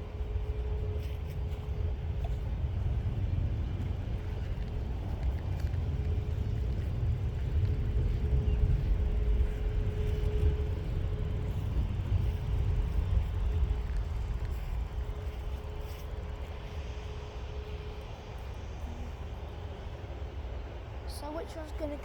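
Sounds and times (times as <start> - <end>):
distant jet engines rumbling: 0.0 - 22.0.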